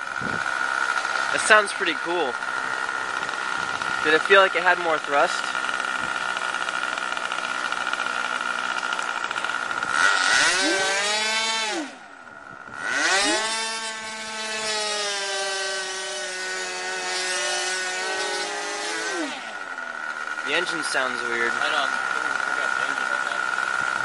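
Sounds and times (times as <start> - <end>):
model airplane engine whining: 0.0 - 24.0.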